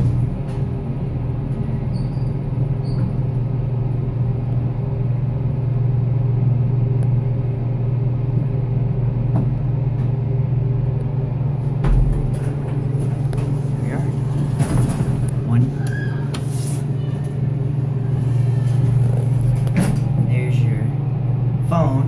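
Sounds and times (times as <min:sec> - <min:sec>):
elevator humming: 0:00.0 - 0:22.0.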